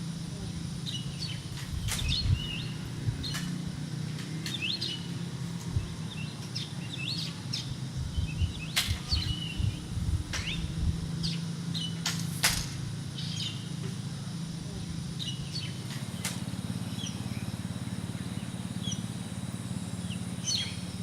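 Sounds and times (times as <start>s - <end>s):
steady low hum: 0.0s - 21.0s
birds chirping: 0.3s - 12.2s, 13.0s - 21.0s.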